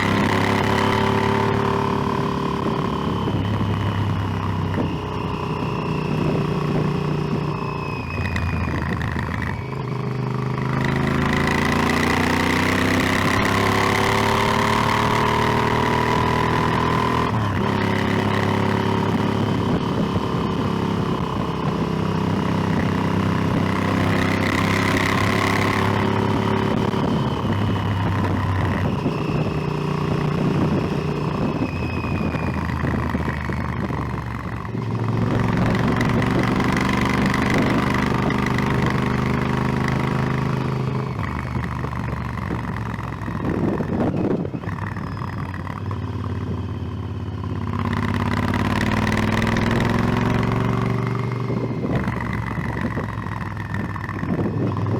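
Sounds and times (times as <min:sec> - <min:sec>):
motorcycle engine revving: 0:00.0 - 0:54.9
wind rushing over microphone: 0:00.0 - 0:54.9.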